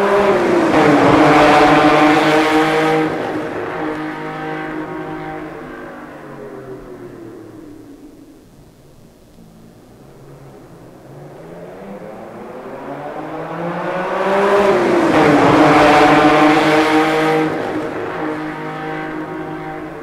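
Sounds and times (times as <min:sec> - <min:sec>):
car engine passing by: 0:00.0 - 0:08.6, 0:09.4 - 0:20.0.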